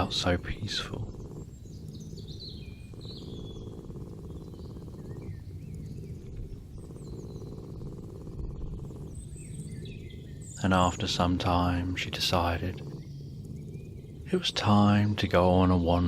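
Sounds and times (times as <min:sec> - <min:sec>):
birds chirping: 0:00.0 - 0:16.0
steady low background noise: 0:00.0 - 0:16.0.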